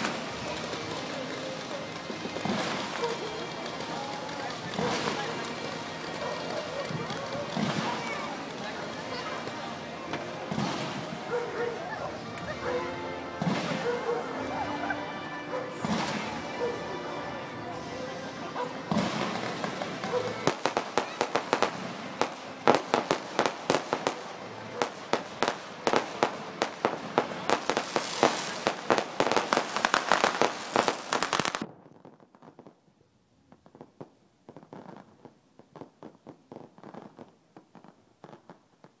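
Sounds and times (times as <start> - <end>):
fireworks popping and banging: 0.0 - 17.3, 18.0 - 39.0.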